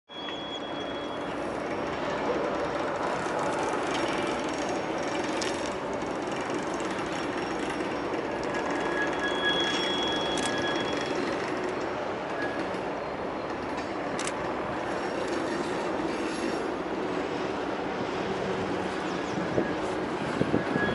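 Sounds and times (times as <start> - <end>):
freight train wheels on track: 0.1 - 20.9.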